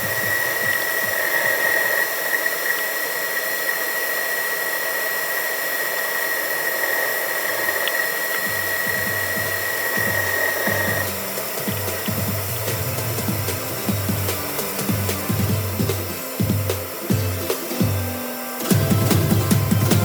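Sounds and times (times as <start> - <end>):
even hiss: 0.0 - 20.0
machine tool high whine: 0.0 - 20.0.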